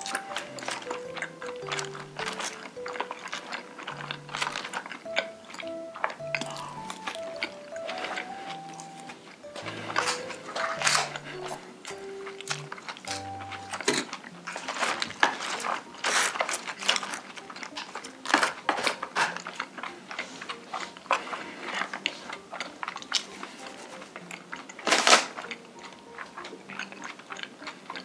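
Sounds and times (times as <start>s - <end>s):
chopsticks clicking in plastic trays: 0.0s - 28.0s
quiet background music: 0.0s - 28.0s
wet chewing: 0.0s - 28.0s.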